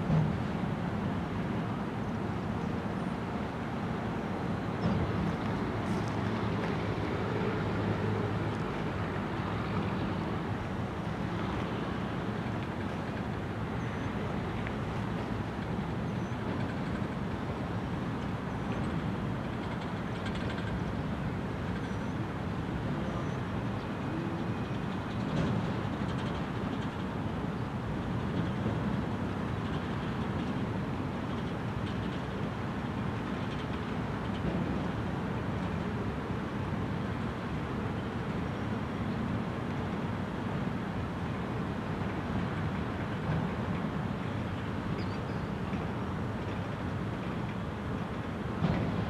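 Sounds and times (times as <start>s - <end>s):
freight cars rumbling on rails: 0.0s - 49.0s.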